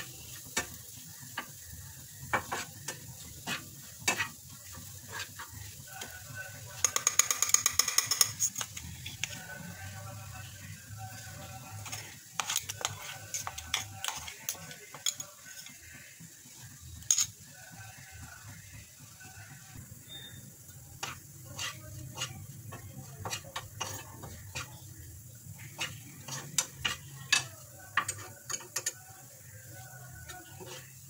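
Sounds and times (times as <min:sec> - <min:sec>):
metal spoon scraping a pan: 0:00.0 - 0:17.8, 0:21.0 - 0:31.0
food sizzling in a frying pan: 0:00.0 - 0:31.0.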